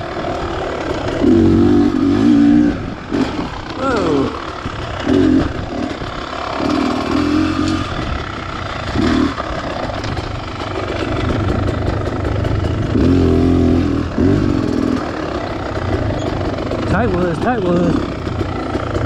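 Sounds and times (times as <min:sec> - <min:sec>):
two-stroke motorcycle engine revving: 0:00.0 - 0:19.0.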